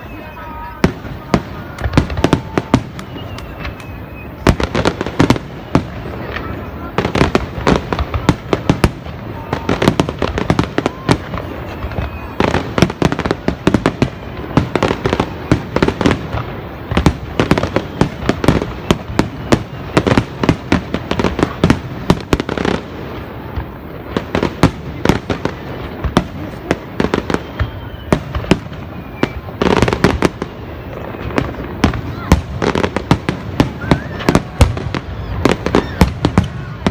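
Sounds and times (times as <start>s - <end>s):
fireworks crackling: 0.0s - 36.9s
fireworks shells bursting: 0.0s - 36.9s.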